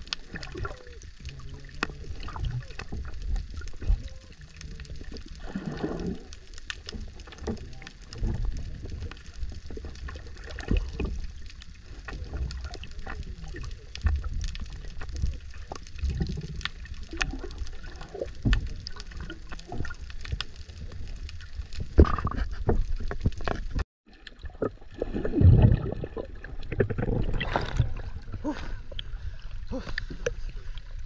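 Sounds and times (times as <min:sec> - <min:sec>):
muffled underwater rumble: 0:00.0 - 0:23.8, 0:24.4 - 0:31.0.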